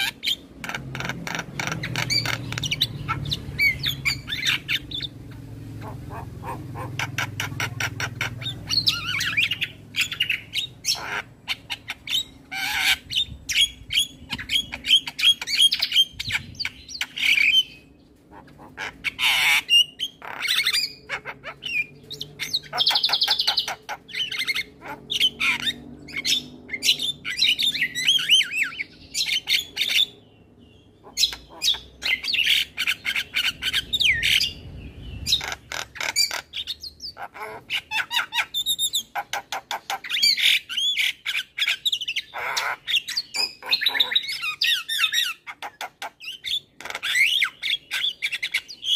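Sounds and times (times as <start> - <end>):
myna bird singing: 0.0 - 48.9.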